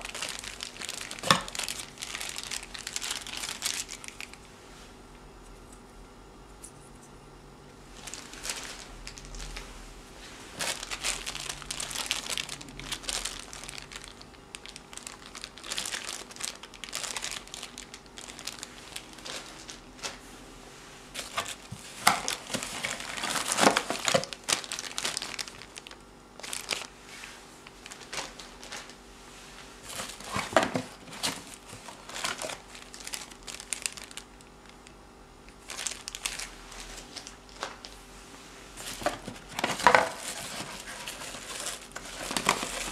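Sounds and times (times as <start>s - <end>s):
plastic bags and bubble wrap crinkling: 0.0s - 5.0s, 7.8s - 42.9s.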